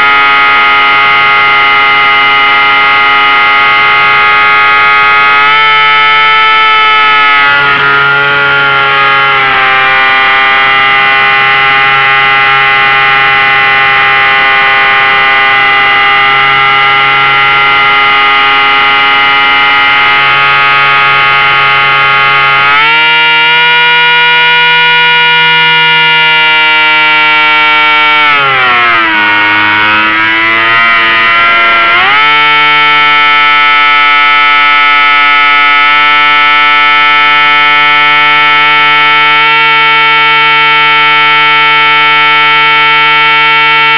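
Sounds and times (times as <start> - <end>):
model plane motor whining: 0.0 - 43.9.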